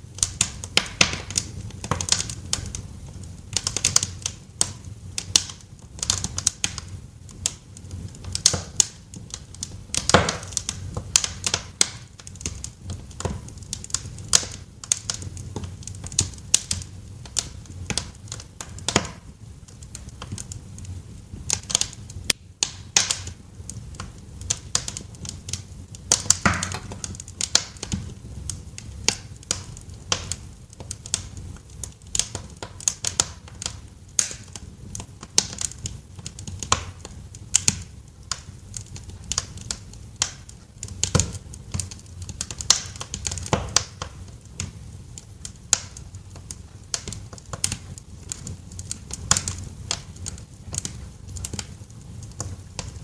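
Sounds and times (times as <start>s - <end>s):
low rush of flames: 0.0s - 53.0s
wood fire crackling: 0.0s - 53.0s.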